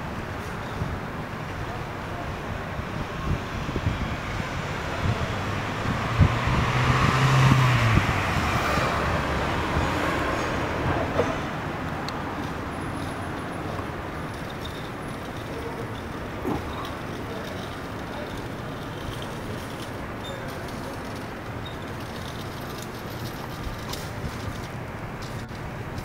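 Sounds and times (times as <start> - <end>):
vehicle passing: 3.6 - 25.5.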